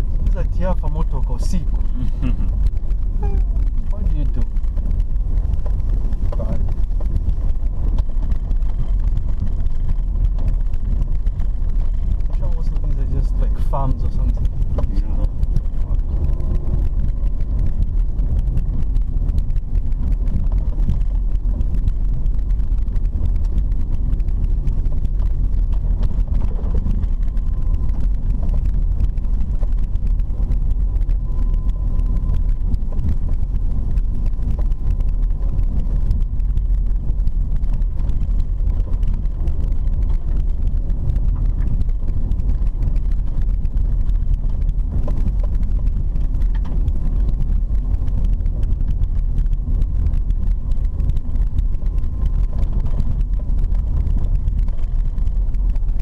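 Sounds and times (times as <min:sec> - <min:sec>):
car tyres and engine rumble: 0:00.0 - 0:56.0.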